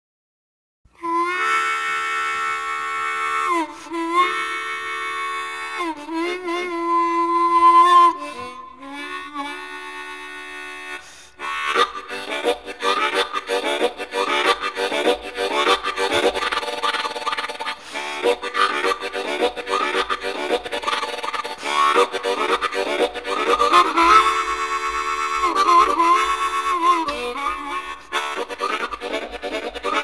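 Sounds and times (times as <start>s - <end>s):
harmonica wailing: 1.0s - 30.0s.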